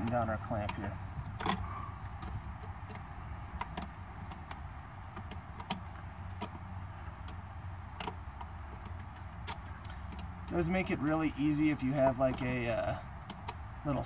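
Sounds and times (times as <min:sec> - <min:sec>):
small metallic clicks: 0:00.0 - 0:14.0.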